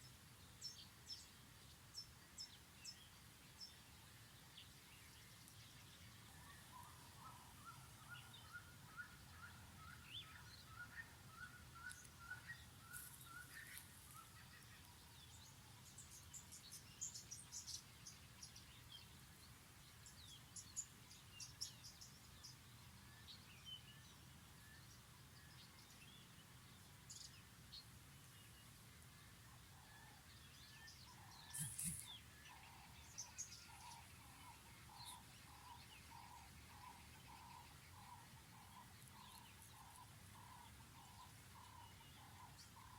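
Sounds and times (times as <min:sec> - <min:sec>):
birdsong: 0:00.0 - 0:42.9
low background noise: 0:00.0 - 0:42.9.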